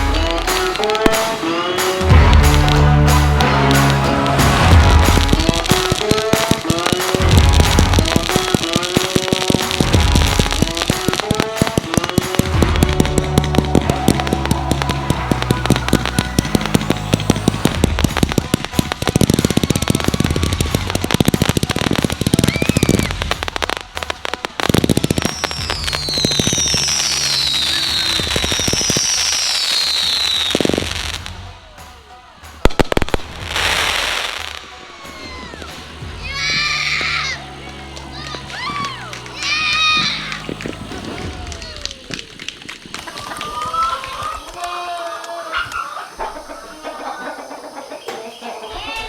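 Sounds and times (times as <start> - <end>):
background music: 0.0 - 44.5
fireworks falling whistles: 0.0 - 44.9
fireworks crackling and popping: 0.0 - 47.0.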